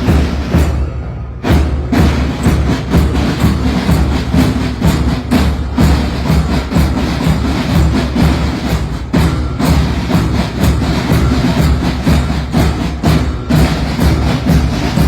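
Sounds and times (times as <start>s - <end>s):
drums keeping march beat: 0.0s - 15.0s
marching band playing: 0.0s - 15.0s.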